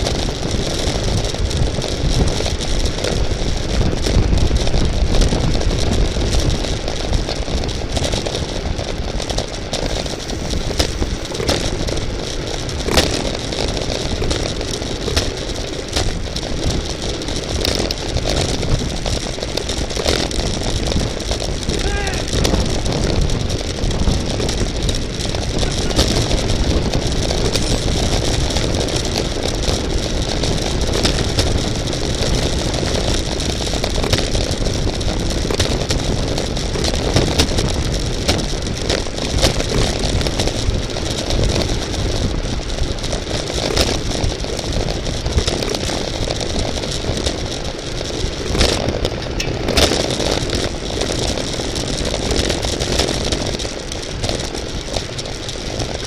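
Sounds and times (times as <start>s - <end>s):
bike clicks and rattles: 0.0s - 56.0s
wind rumbling on microphone: 0.0s - 56.0s.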